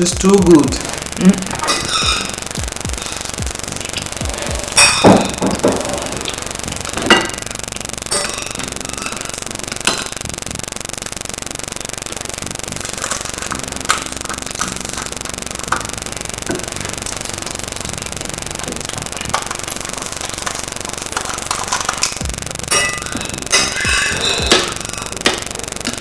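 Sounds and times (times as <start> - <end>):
steady buzzing: 0.0 - 26.0.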